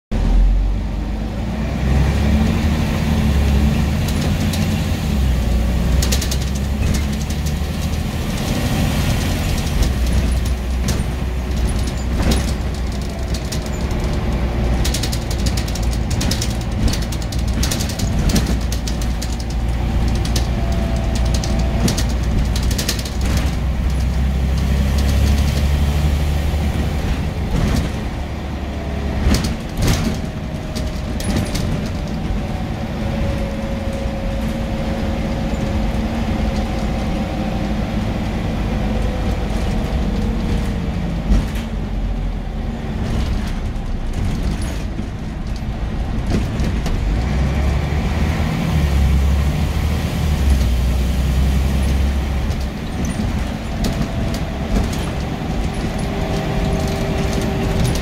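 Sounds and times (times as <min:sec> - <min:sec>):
bus diesel engine: 0:00.1 - 0:58.0
rattles and clicks: 0:03.2 - 0:49.6, 0:50.4 - 0:58.0.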